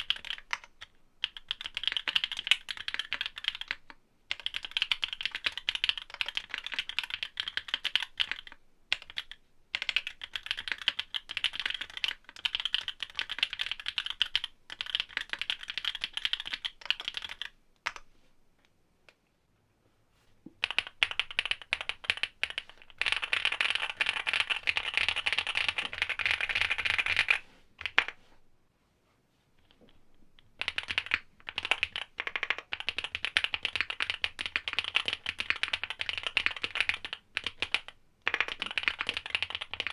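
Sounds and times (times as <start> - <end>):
typing on mechanical keyboard: 0.0 - 18.0, 20.6 - 28.2, 30.5 - 39.9.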